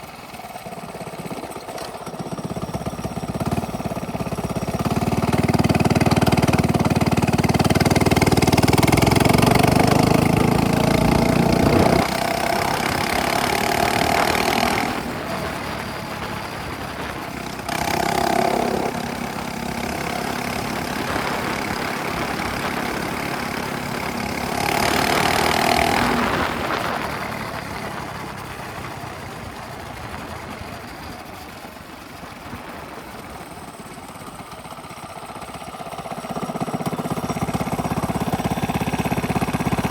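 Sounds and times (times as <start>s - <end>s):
minibike engine revving: 0.0s - 39.9s.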